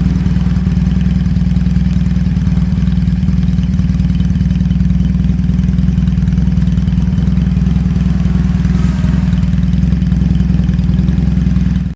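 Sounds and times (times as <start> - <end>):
flat-twin engine idling: 0.0 - 11.9.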